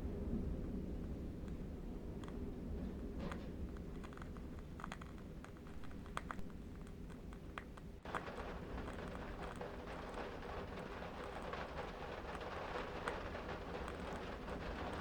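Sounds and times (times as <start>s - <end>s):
low wind rumble: 0.0s - 15.0s
small crackles and clicks: 0.4s - 15.0s.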